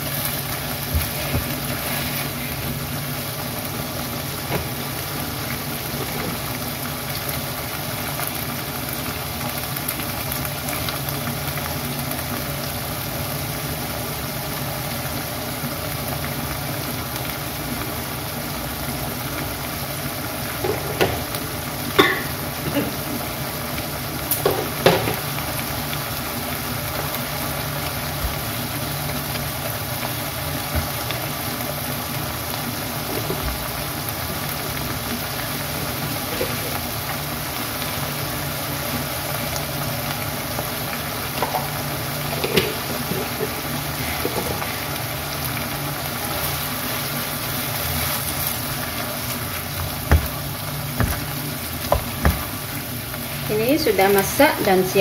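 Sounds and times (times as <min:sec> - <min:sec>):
greens sizzling in a pan: 0:00.0 - 0:55.0.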